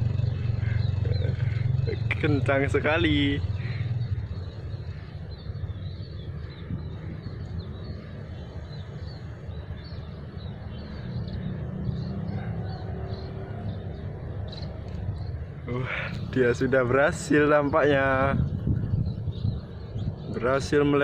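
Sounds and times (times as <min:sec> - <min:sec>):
distant motorbike engine droning: 0:00.0 - 0:18.9.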